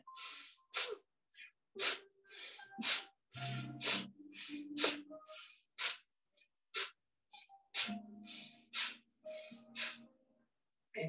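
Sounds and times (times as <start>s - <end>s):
forceful nasal breathing: 0.0s - 10.1s.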